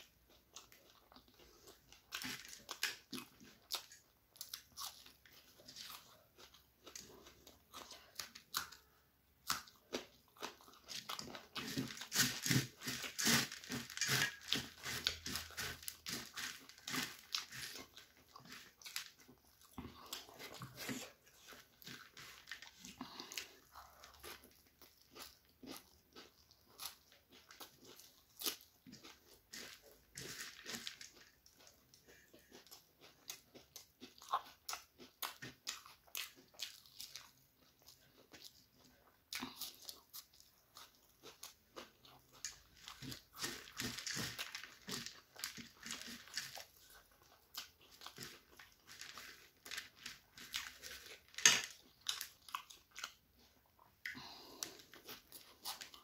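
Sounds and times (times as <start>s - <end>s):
chewing crunchy puffed rice: 0.0s - 56.0s.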